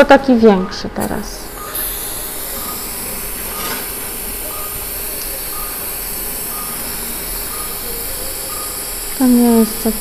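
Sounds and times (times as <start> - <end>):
patient monitor beeping: 0.0 - 10.0.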